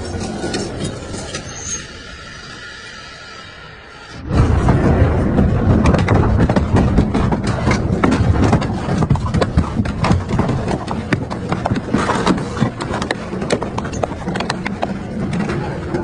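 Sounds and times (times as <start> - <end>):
shredder shafts rumbling: 0.0 - 2.8, 3.6 - 16.0.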